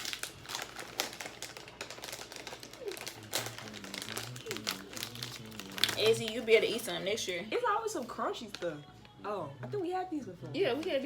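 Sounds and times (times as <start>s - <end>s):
plastic wrapper crinkling: 0.0s - 9.2s.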